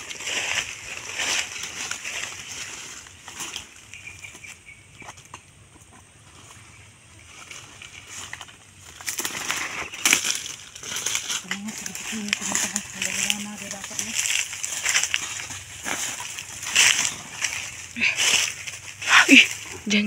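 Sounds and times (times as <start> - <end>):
footsteps through wet undergrowth: 0.0 - 5.2, 6.3 - 20.0.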